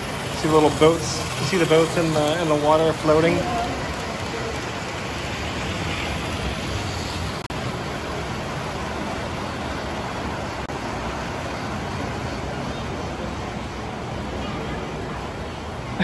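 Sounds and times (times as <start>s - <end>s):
model trains rolling on track: 0.0s - 15.9s.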